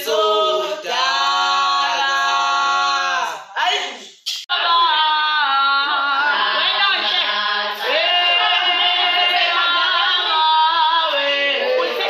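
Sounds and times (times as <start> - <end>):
women singing together: 0.0 - 3.2, 4.5 - 12.0.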